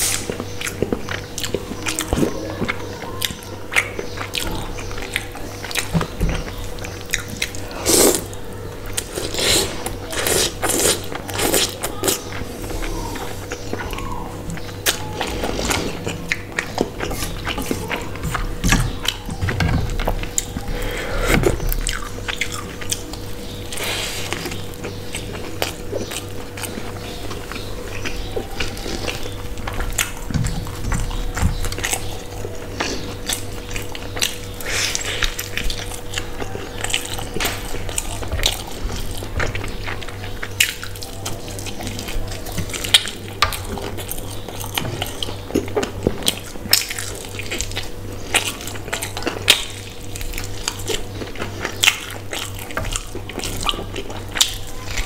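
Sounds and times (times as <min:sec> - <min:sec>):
steady low hum: 0:00.0 - 0:55.0
wet chewing and smacking: 0:00.0 - 0:55.0.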